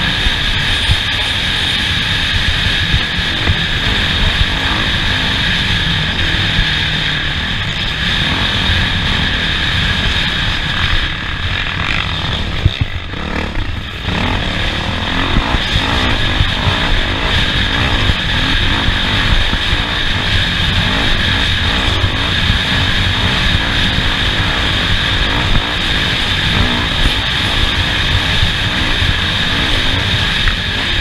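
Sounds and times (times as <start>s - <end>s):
race vehicle engine revving: 0.0s - 31.0s.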